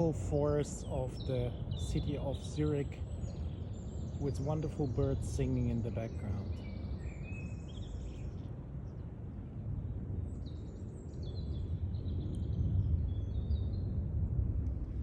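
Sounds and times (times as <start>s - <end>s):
songbirds chirping: 0.0s - 14.1s
low rumble: 0.0s - 15.0s.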